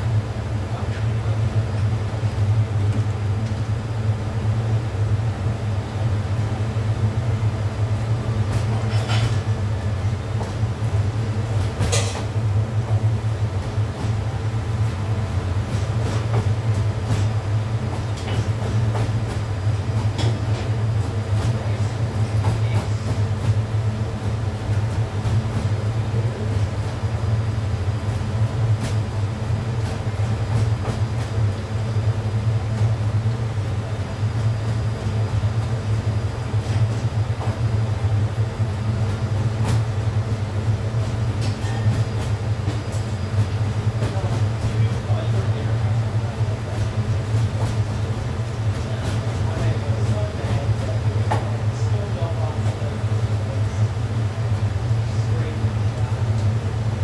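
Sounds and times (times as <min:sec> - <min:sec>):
gas burner rumble: 0:00.0 - 0:57.0.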